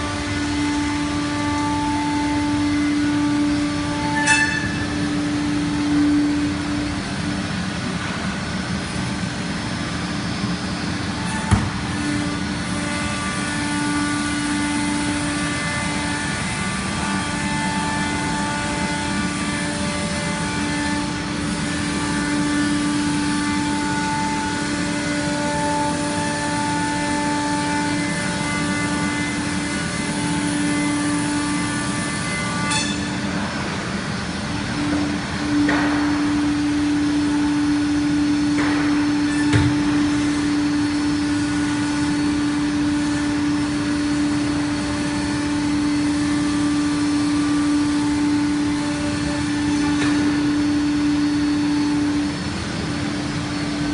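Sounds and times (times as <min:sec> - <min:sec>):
machine hum with whine: 0:00.0 - 0:53.9.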